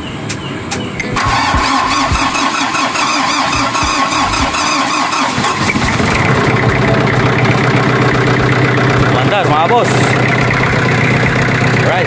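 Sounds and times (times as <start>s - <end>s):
diesel engine cranking: 0.6s - 12.0s
diesel engine idling: 1.2s - 12.0s
starter motor whine: 1.2s - 12.0s.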